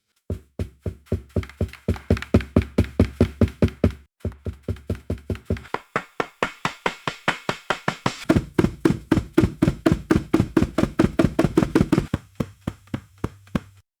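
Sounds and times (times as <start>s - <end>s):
footsteps running on wooden floor: 0.3s - 13.8s.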